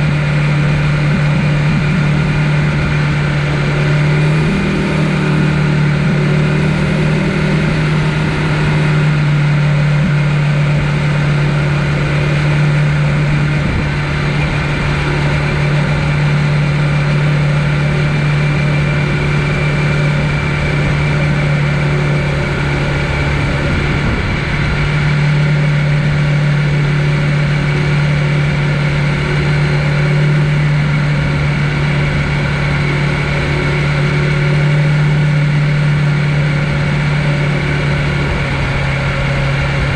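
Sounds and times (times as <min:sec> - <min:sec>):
electric bike motor hum: 0:00.0 - 0:39.9
rushing riding noise: 0:00.0 - 0:39.9.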